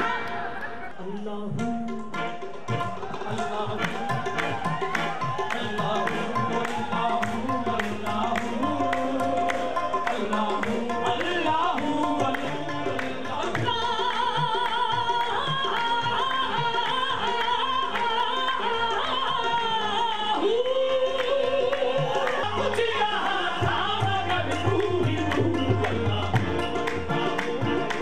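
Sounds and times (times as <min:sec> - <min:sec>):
harmonium: 0:00.0 - 0:28.0
man singing with vibrato: 0:00.0 - 0:28.0
percussion: 0:00.0 - 0:28.0
hand-clapping: 0:02.4 - 0:28.0.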